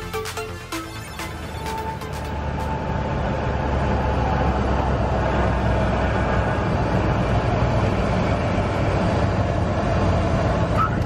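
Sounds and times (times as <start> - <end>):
airplane engine and propeller rumble: 0.0 - 11.0.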